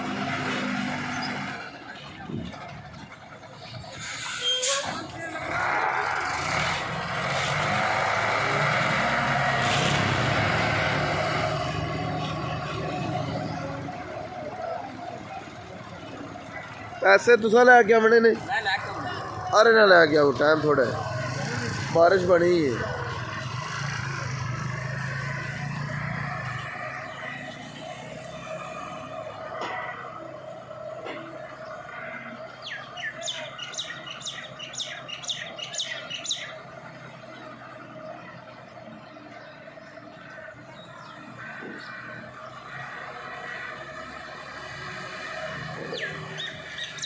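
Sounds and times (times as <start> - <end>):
heavy truck engine running: 0.0 - 47.0.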